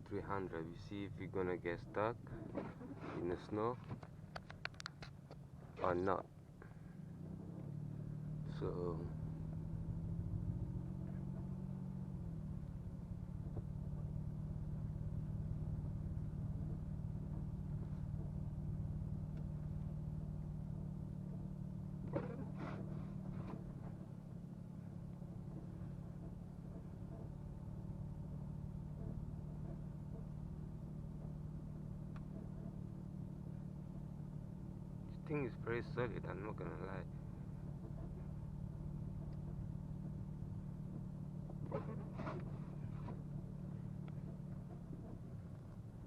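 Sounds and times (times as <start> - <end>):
car engine hum: 0.0 - 46.0.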